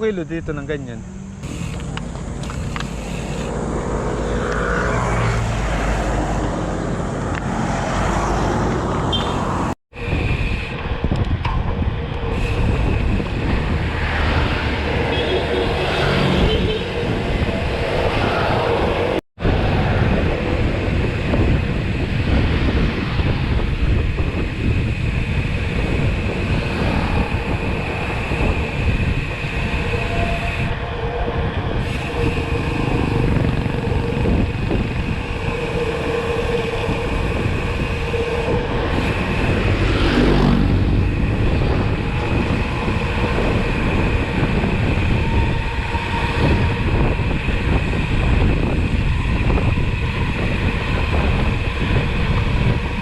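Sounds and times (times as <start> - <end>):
road and wind rumble: 0.0 - 53.0.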